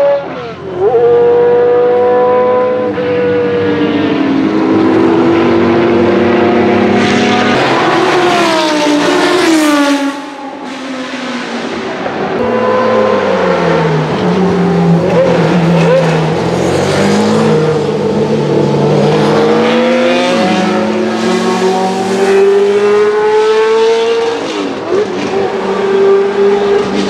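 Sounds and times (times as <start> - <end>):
racing car engines passing: 0.0 - 27.0.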